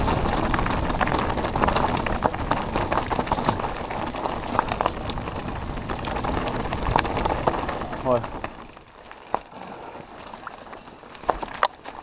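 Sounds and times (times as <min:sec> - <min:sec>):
bike clicking and rattling: 0:00.0 - 0:12.0
tyre and trail noise: 0:00.0 - 0:12.0.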